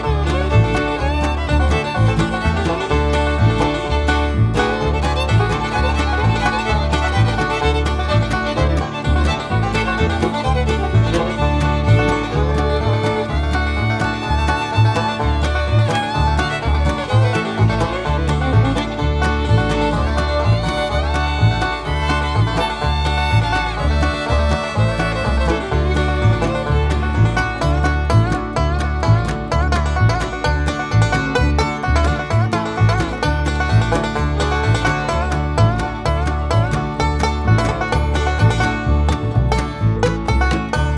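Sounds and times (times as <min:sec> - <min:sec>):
upbeat bluegrass tune: 0:00.0 - 0:40.9.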